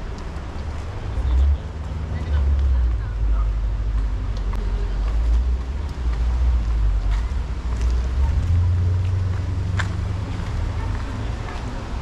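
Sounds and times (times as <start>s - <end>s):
vehicle traffic rumble: 0.0s - 12.0s.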